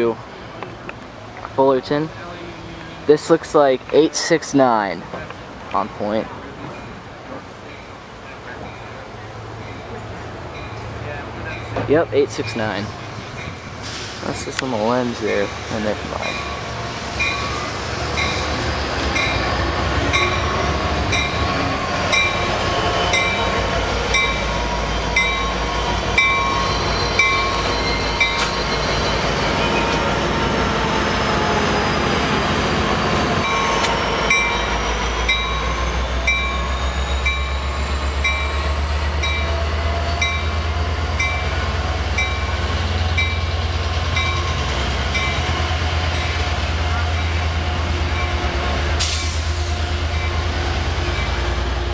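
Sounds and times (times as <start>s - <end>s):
diesel locomotive engine hum: 0.0s - 51.9s.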